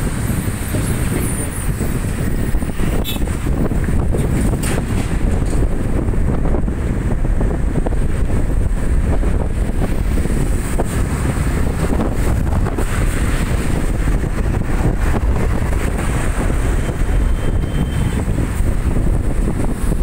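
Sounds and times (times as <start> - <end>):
highway traffic rumble: 0.0 - 20.0
wind buffeting microphone: 0.0 - 20.0.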